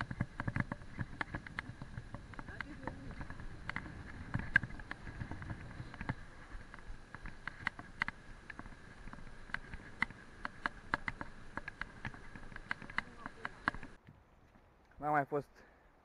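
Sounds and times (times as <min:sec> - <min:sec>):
bike rattling on stones: 0:00.0 - 0:14.0
bike tyre rumble on paving: 0:00.0 - 0:14.6.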